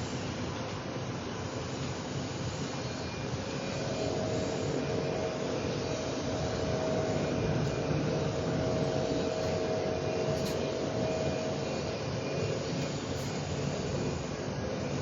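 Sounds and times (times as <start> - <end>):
constant hum: 0.0 - 15.0
machinery noise: 0.0 - 15.0.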